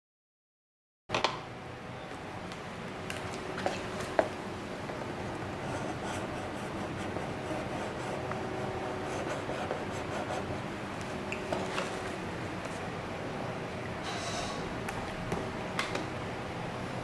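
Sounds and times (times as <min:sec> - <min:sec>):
steady background hum: 0:01.1 - 0:17.0.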